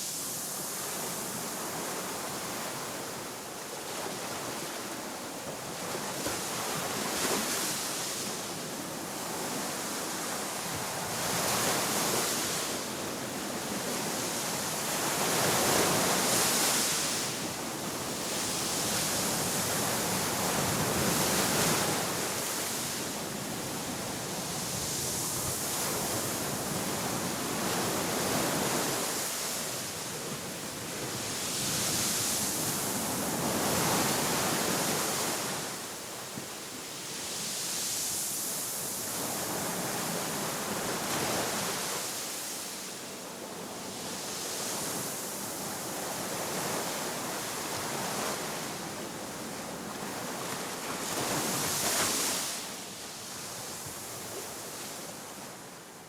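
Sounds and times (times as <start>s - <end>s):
sea waves washing onto shore: 0.0s - 55.6s.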